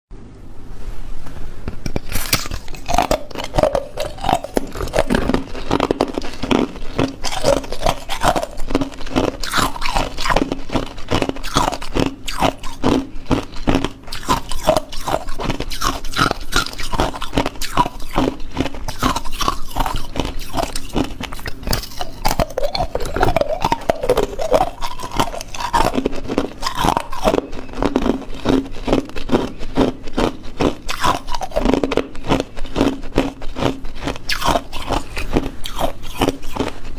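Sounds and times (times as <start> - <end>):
ice cubes being chewed: 1.9 - 36.9.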